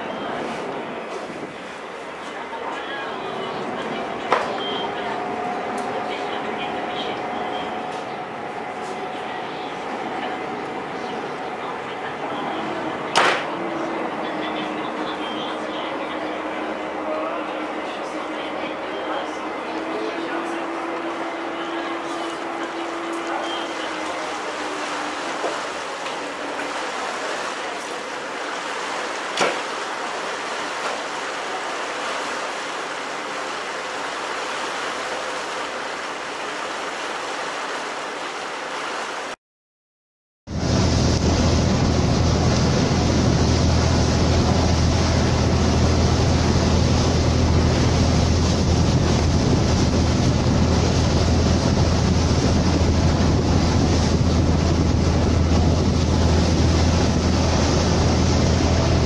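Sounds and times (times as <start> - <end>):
water rushing past hull: 0.0 - 39.4, 40.5 - 59.0
low engine drone: 2.4 - 36.6, 40.5 - 59.0.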